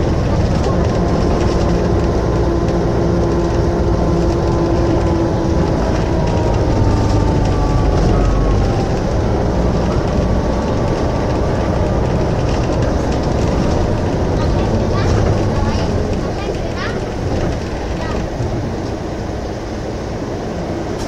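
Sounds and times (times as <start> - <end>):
bus diesel engine idling: 0.0 - 21.0.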